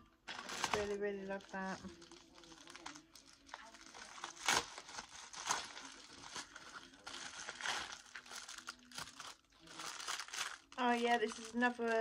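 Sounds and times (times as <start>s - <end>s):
packaging crinkling: 0.3s - 12.0s.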